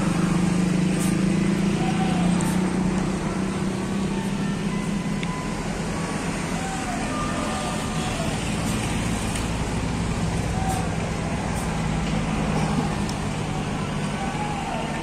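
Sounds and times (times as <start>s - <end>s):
bus diesel engine humming: 0.0s - 15.0s.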